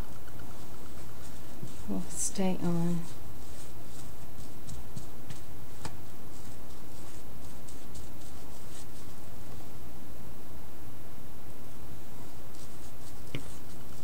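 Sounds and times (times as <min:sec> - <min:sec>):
brush swishing strokes: 0:00.0 - 0:09.7, 0:12.2 - 0:14.0
steady low hum: 0:00.0 - 0:14.0.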